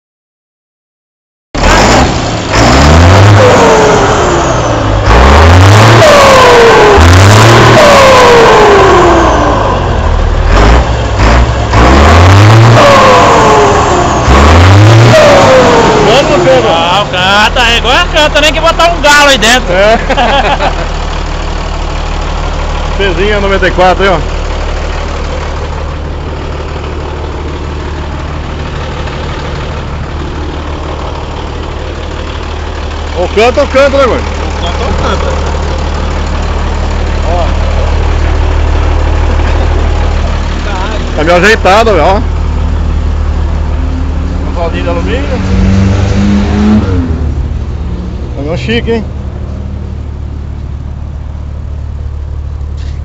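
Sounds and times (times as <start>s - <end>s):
truck diesel engine revving: 1.6s - 53.0s.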